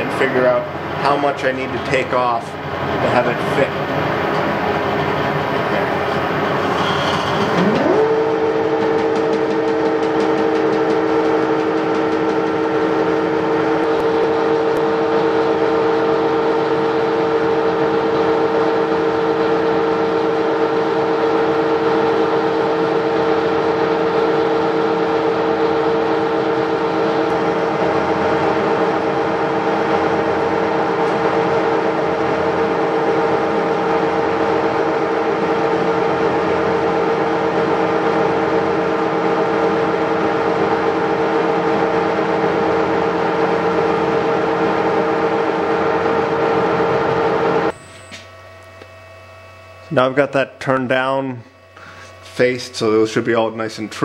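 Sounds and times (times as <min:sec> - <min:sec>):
metal lathe whining: 0:00.0 - 0:48.8.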